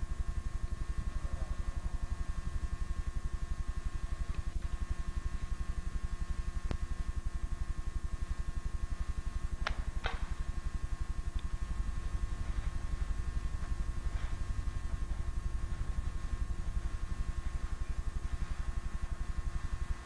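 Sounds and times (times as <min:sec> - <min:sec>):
faint high whine: 0:00.0 - 0:20.0
pulsing low hum: 0:00.0 - 0:20.0.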